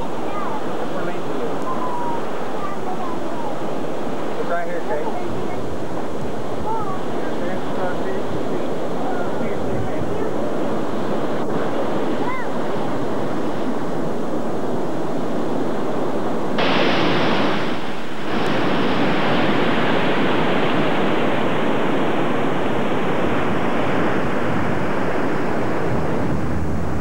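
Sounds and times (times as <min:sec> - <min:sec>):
ocean surf breaking over rocks: 0:00.0 - 0:27.0.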